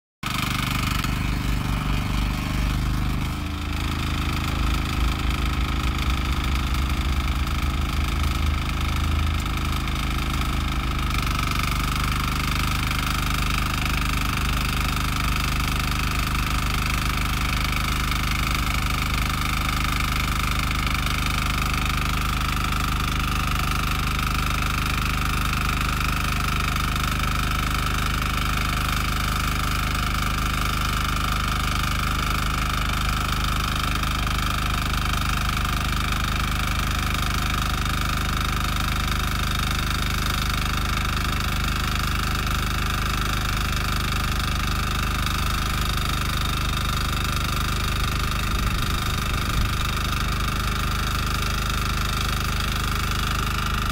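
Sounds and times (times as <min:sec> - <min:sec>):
tiller engine running under load: 0:00.2 - 0:53.9.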